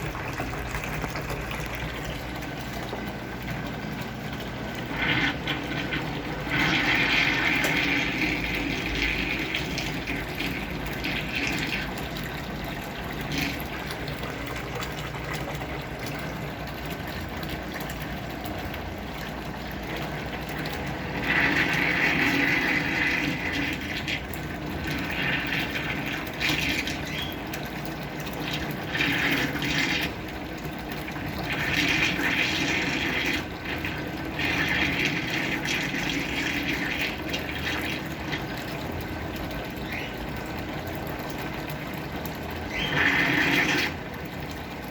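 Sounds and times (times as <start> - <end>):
water pouring into washing machine: 0.0 - 44.9.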